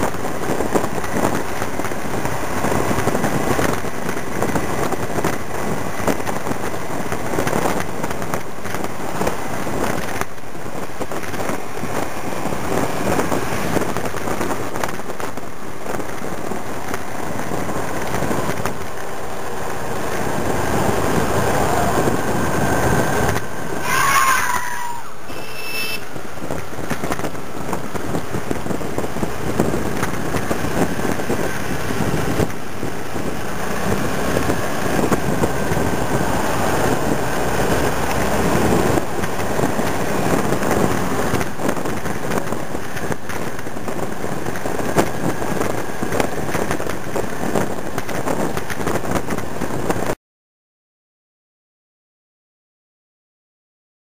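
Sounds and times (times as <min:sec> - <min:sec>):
wind rushing over microphone: 0:00.0 - 0:50.2.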